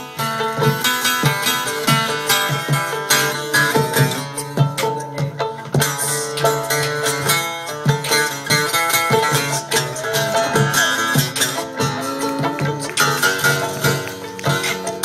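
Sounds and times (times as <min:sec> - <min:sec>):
percussive beat: 0:00.0 - 0:15.0
plucked guitar solo: 0:00.0 - 0:15.0.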